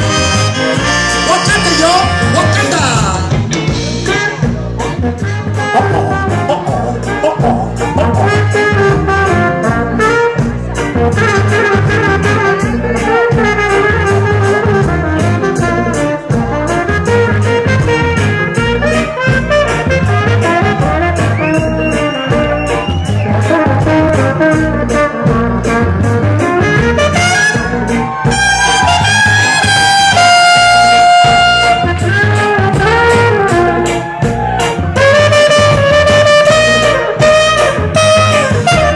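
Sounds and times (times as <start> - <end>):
live ska band: 0.0 - 38.9
saxophone: 0.0 - 38.9
trumpet: 0.0 - 38.9.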